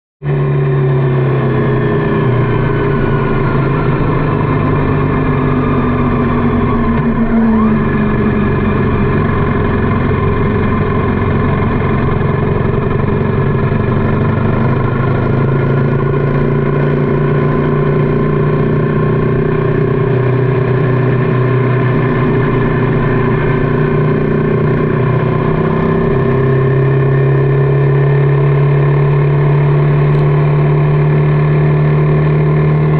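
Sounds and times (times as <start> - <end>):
motorcycle engine droning: 0.2 - 32.9.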